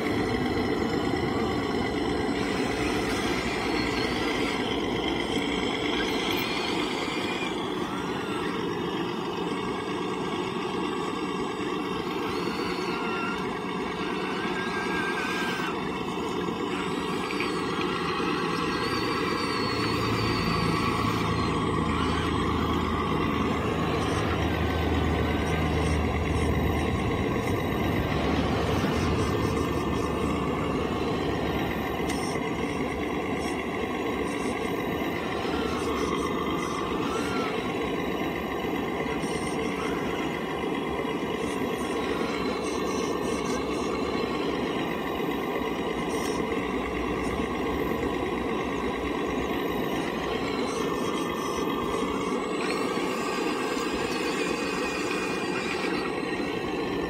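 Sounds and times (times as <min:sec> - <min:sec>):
hydraulic pump droning: 0:00.0 - 0:57.0
hydraulic whines: 0:00.0 - 0:57.0.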